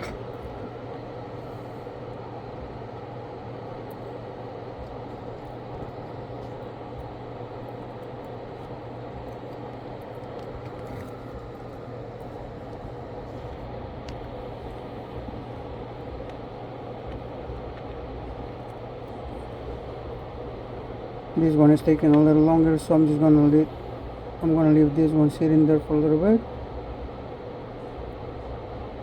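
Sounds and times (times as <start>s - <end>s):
fan whirring: 0.0s - 29.0s
low hum: 0.0s - 29.0s.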